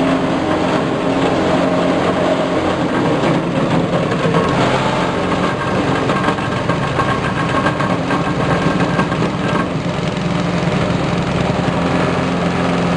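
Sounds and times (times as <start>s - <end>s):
shredding machine engine drone: 0.0s - 12.9s.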